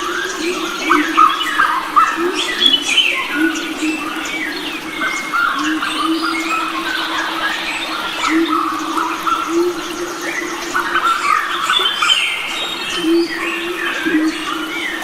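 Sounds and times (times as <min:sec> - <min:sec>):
birds chirping and singing: 0:00.0 - 0:15.0.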